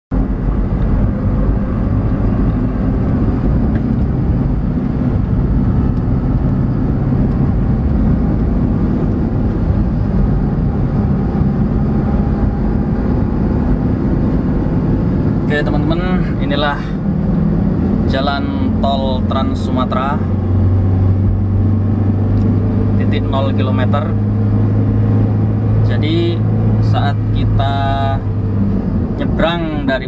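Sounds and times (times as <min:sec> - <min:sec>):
car engine and tyres drone: 0:00.1 - 0:30.0.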